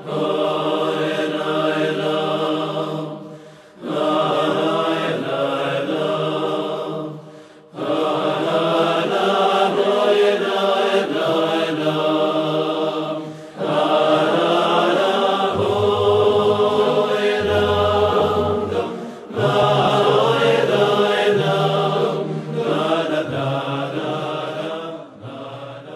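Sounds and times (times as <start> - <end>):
voices singing a slow chant: 0.0 - 25.9.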